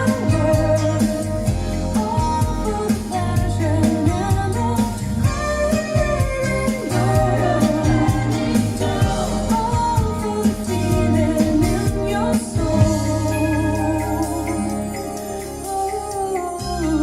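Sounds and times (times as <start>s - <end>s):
song over loudspeakers: 0.0s - 17.0s.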